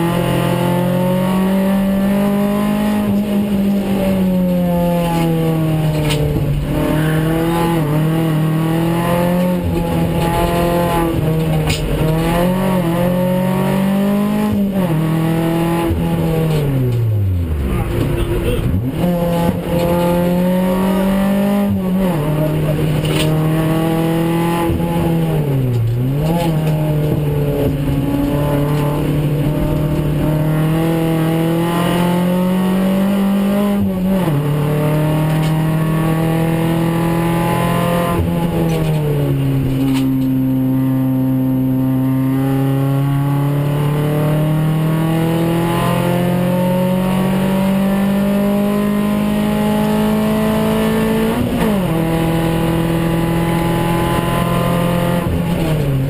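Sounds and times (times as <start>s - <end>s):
car engine at full load: 0.0s - 56.0s.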